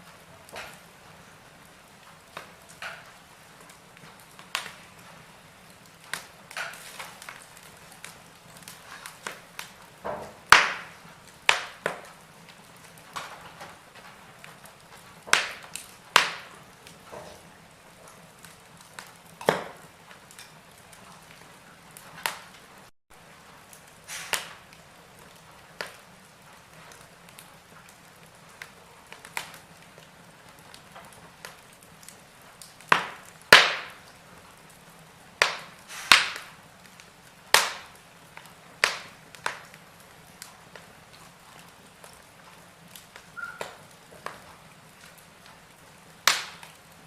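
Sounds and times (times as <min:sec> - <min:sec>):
wood fire crackling: 0:00.0 - 0:47.0
logs popping: 0:00.1 - 0:00.9, 0:02.0 - 0:22.6, 0:23.6 - 0:34.2, 0:35.4 - 0:47.0.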